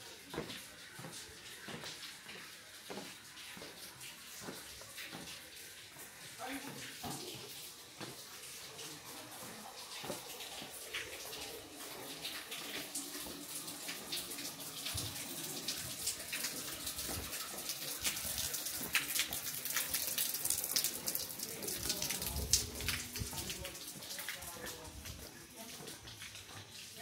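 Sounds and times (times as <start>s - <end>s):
water running and splashing: 0.0s - 27.0s.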